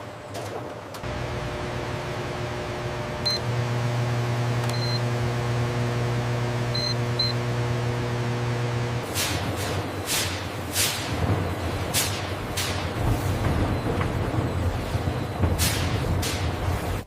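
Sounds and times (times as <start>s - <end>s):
machinery humming: 0.9s - 17.0s.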